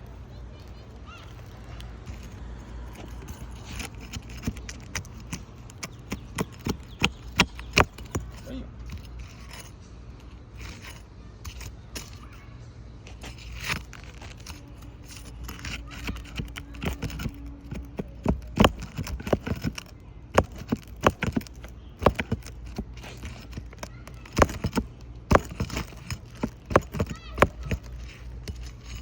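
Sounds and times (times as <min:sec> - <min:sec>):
hand tool pulling roofing nails: 0:01.2 - 0:12.4, 0:13.1 - 0:29.0.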